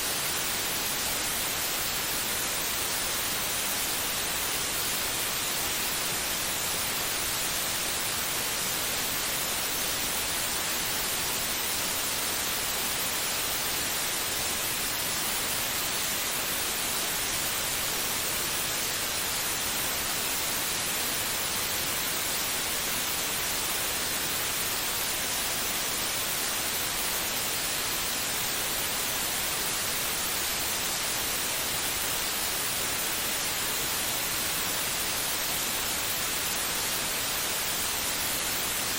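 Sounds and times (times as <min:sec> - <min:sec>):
steady white noise hiss: 0:00.0 - 0:38.9.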